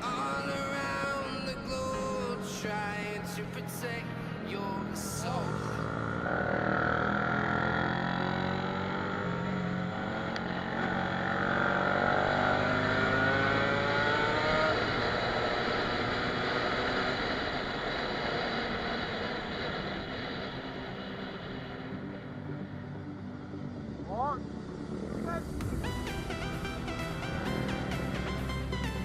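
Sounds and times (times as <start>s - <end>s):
motorcycle engine accelerating: 4.0s - 29.0s.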